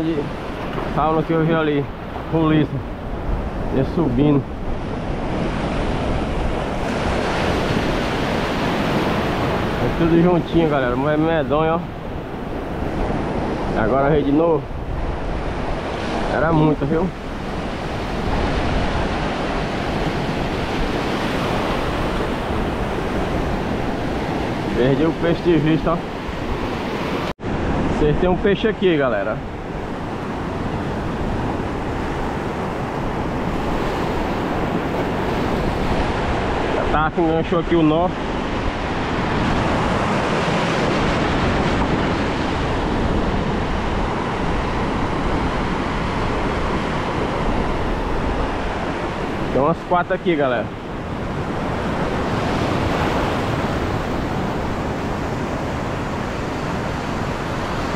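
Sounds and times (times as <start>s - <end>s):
ocean surf breaking: 0.0s - 57.9s
wind rumbling on microphone: 0.0s - 57.9s.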